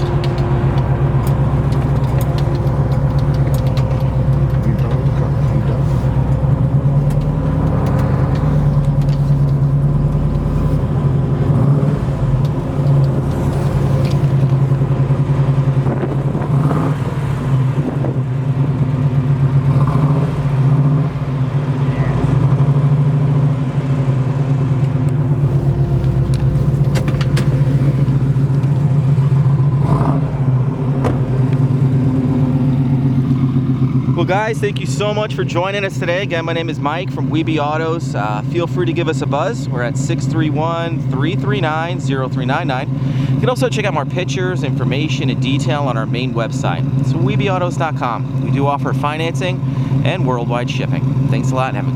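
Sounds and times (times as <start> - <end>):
deep car exhaust note: 0.0 - 51.9.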